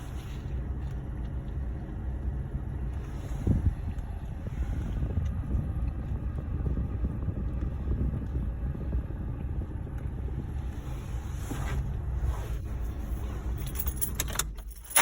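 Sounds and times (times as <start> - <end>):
car cabin rumble and hiss: 0.0 - 15.0.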